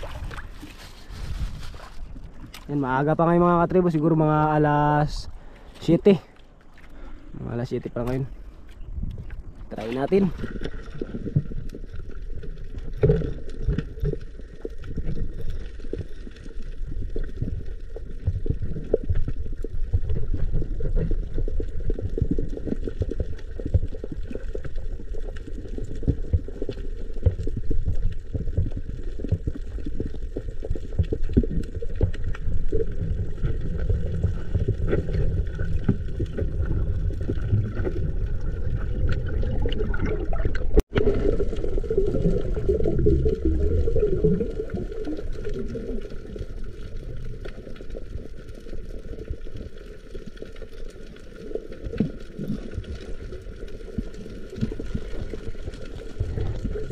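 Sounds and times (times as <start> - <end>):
water gurgling and sloshing: 0.0 - 56.9.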